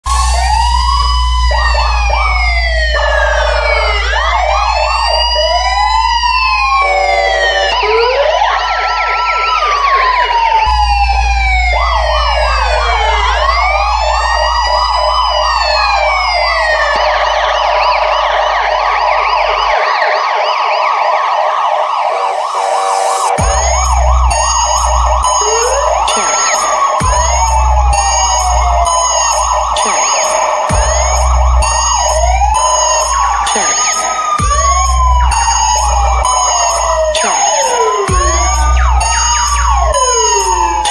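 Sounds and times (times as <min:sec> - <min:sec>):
electronic police siren: 0:00.0 - 0:40.9.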